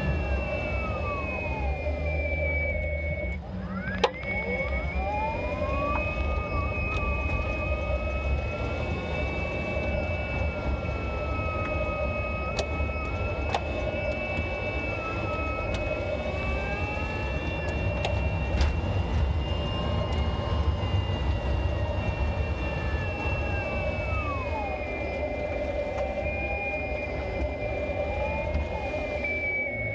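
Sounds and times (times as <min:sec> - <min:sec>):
electric motor whining: 0:00.0 - 0:29.9
low road rumble: 0:00.0 - 0:29.9.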